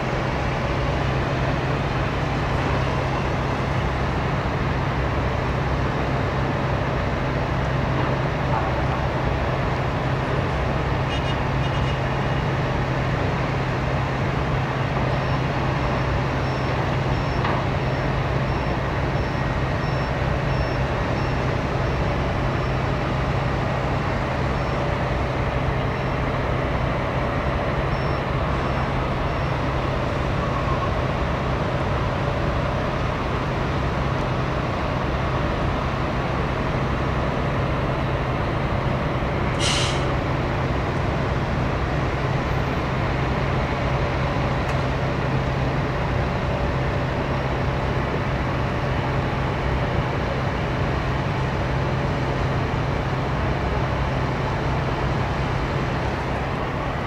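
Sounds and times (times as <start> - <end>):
heavy machinery drone: 0.0 - 57.0.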